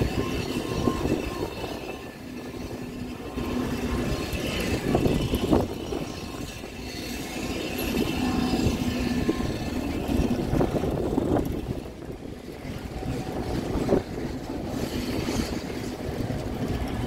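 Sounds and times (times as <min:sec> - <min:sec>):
ride machinery rumble: 0:00.0 - 0:17.0.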